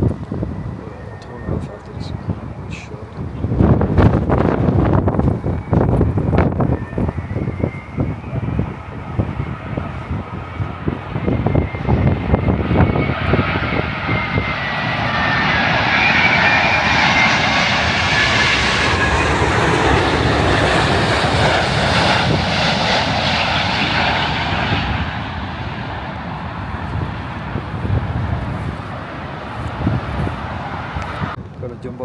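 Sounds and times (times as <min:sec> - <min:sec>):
jet airliner flying overhead: 0:00.0 - 0:32.0
wind buffeting microphone: 0:00.0 - 0:32.0.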